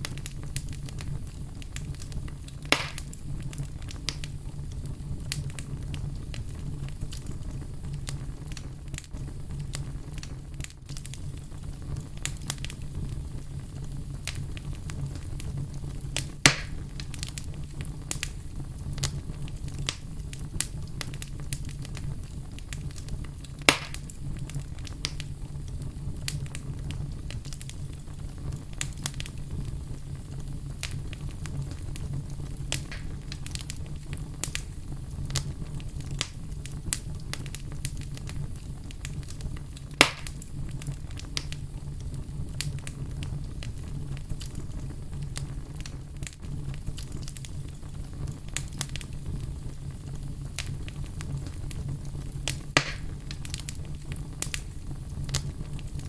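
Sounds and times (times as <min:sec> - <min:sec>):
fire crackling: 0:00.0 - 0:56.0
loud fire pops: 0:00.0 - 0:56.0.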